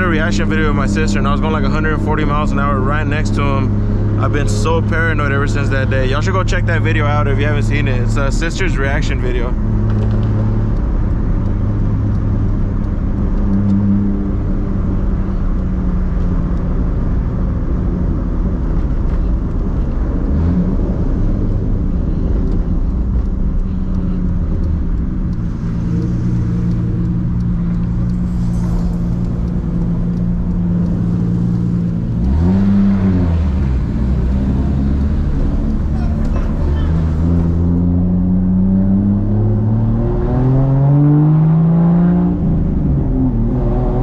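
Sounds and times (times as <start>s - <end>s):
car engine droning: 0.0s - 44.0s.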